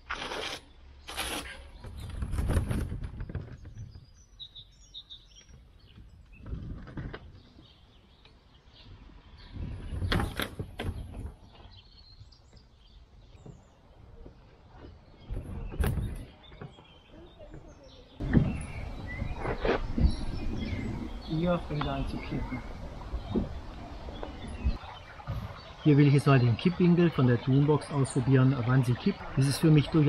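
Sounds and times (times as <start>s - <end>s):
birds chirping faintly: 0.4s - 30.0s.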